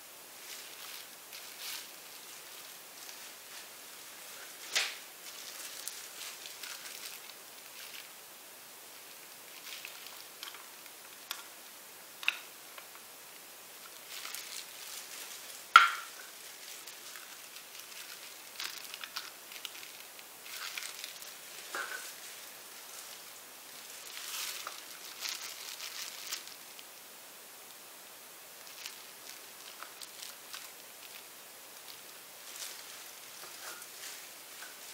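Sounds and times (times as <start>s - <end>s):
rustles and clicks of handling cups: 0.4s - 8.1s, 9.1s - 11.6s, 13.8s - 26.9s, 28.6s - 34.9s.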